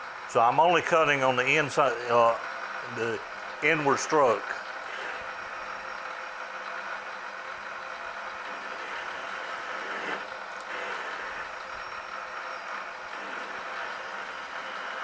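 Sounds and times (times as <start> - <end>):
lathe running: 0.0 - 15.0
metal lathe cutting hiss: 0.0 - 15.0.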